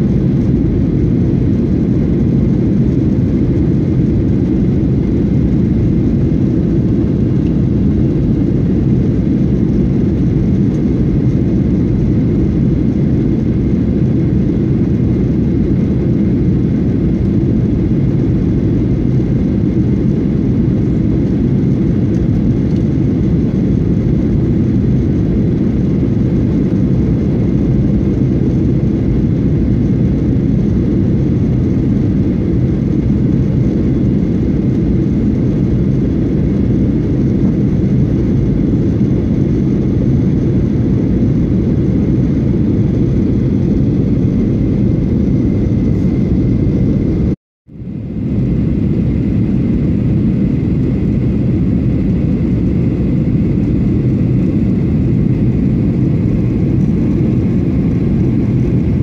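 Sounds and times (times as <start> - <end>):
jet cabin engine rumble: 0.0 - 59.0.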